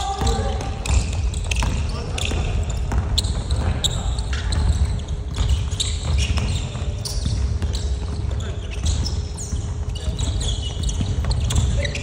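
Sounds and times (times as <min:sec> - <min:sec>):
basketball bouncing: 0:00.0 - 0:12.0
footsteps on hardwood court: 0:00.0 - 0:12.0
voices echoing: 0:00.0 - 0:12.0.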